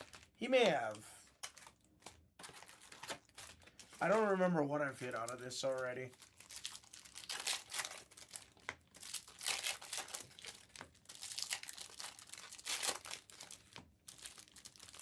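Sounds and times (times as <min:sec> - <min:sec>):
plastic wrappers crinkling: 0:00.0 - 0:15.0.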